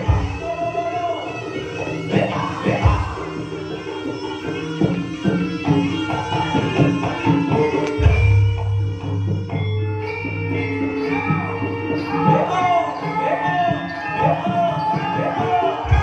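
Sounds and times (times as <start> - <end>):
ringing pitched tones: 0.0 - 16.0.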